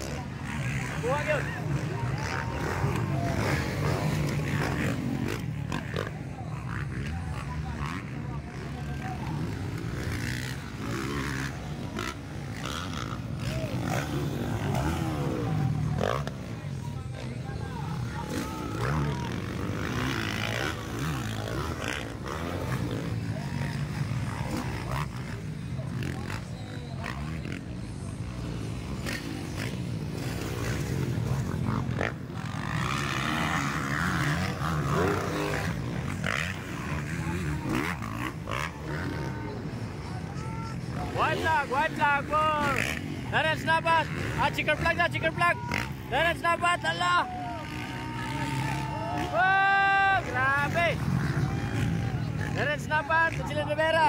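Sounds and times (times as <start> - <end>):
crowd voices: 0.0 - 54.0
dirt bike engines: 0.0 - 54.0.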